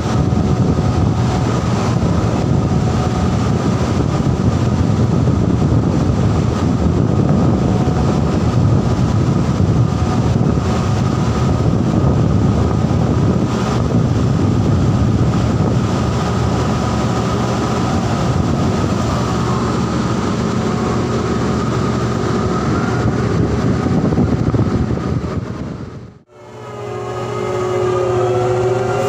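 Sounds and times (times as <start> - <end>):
faint high whine: 0.0 - 24.2, 26.2 - 29.0
crane engine and winch running: 0.0 - 29.0.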